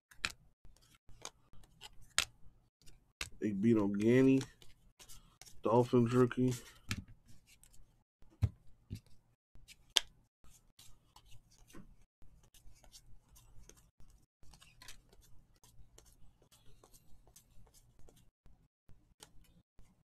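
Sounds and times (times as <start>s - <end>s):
trading cards rustling and clicking: 0.1s - 18.3s.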